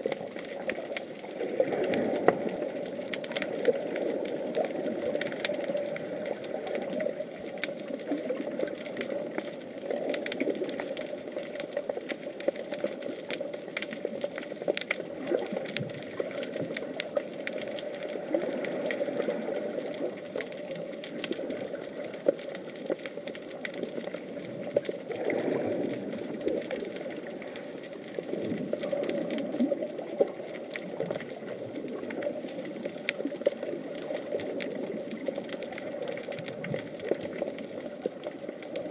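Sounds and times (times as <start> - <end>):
muffled underwater rushing: 0.0 - 38.9
small clicks and crackles: 0.0 - 38.9.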